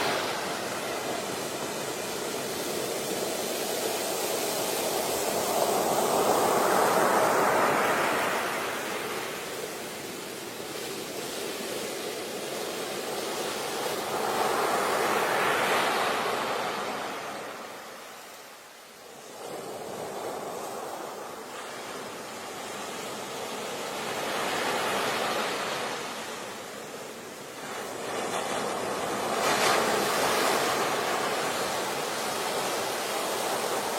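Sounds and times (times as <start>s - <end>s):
surf rushing in and out: 0.0s - 33.9s.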